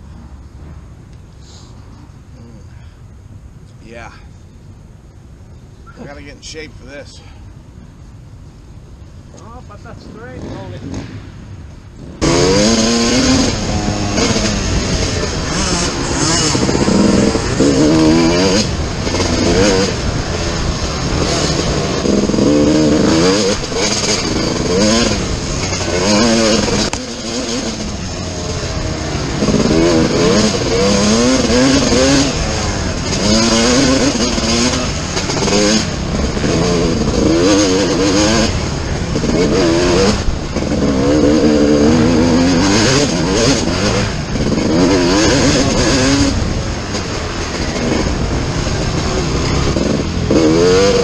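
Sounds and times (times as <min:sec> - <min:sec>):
dirt bike engine revving: 0:09.4 - 0:11.4, 0:12.0 - 0:51.0.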